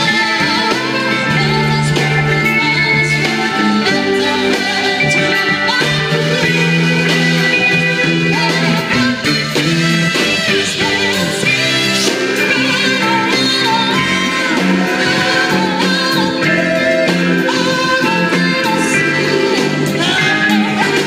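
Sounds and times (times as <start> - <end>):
guitar: 0.0 - 21.0
live band playing: 0.0 - 21.0.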